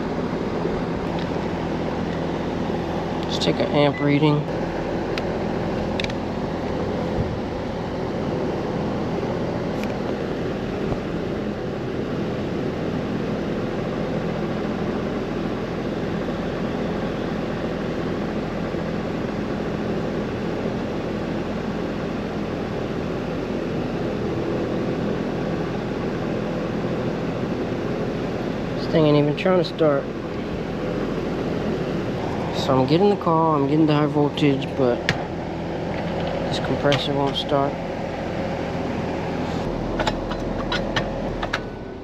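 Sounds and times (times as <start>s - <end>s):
condenser fan hum and whoosh: 0.0s - 42.0s.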